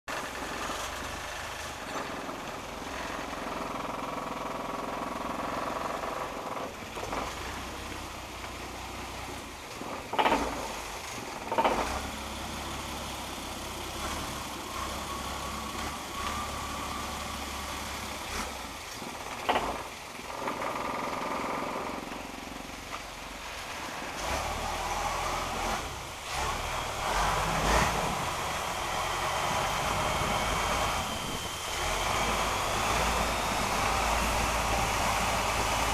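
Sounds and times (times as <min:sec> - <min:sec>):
boat engine running: 0:00.1 - 0:35.9.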